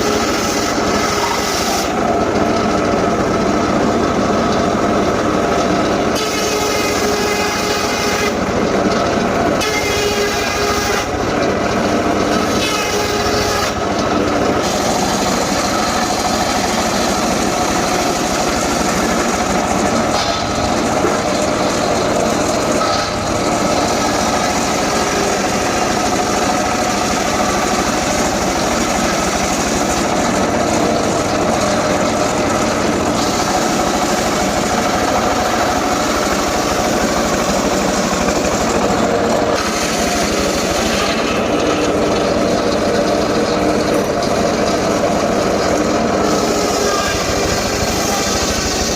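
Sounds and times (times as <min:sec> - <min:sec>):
engine-driven saw cutting wood: 0:00.0 - 0:48.9.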